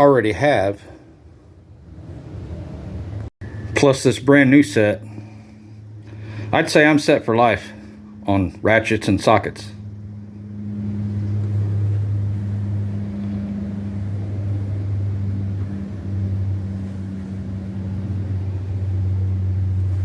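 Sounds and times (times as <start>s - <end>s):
vehicle engine idling: 0.8s - 20.0s.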